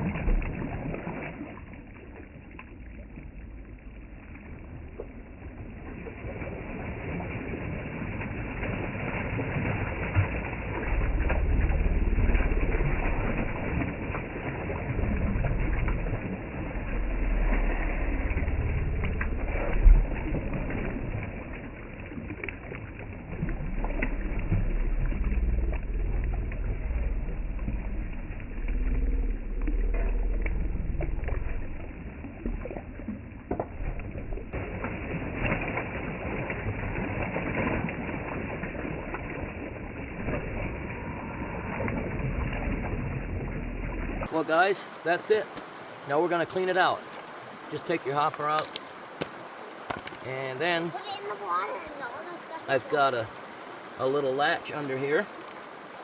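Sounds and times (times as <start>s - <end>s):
water and gravel washing through box: 0.0s - 2.2s, 5.9s - 32.8s, 33.5s - 43.4s, 44.2s - 53.3s.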